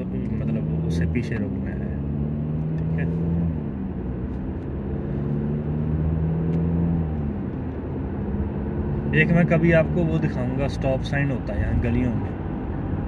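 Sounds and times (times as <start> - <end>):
car engine hum: 0.0 - 13.0
tyre road noise: 0.0 - 13.0.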